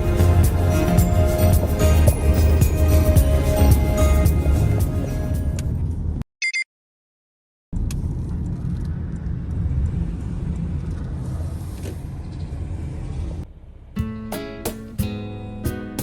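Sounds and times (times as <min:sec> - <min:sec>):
car road and engine noise: 0:00.0 - 0:06.2, 0:07.8 - 0:16.0.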